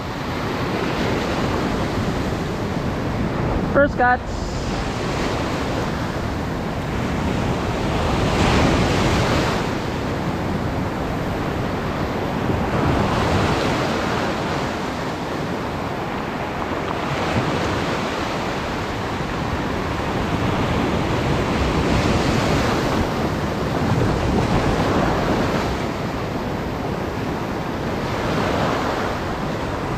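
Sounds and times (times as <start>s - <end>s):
sea surf washing on shore: 0.0s - 29.9s
wind noise on microphone: 0.0s - 29.9s.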